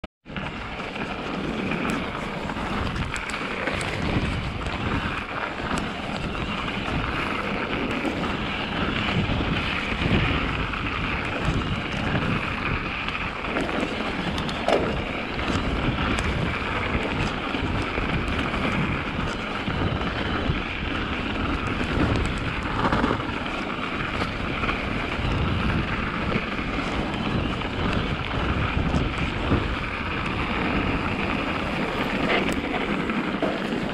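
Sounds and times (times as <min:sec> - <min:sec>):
wind buffeting microphone: 0:00.2 - 0:33.9
bike clicks and rattles: 0:00.3 - 0:33.9
bike tyres crunching on snow: 0:00.3 - 0:33.9.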